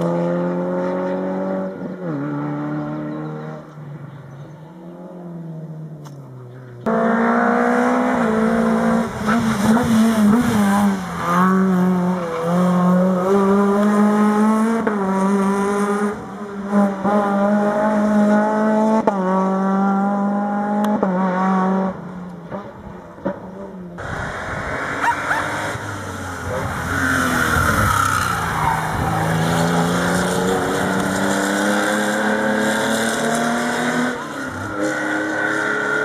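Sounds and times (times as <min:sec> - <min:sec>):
rally car engine accelerating: 0:06.8 - 0:36.0.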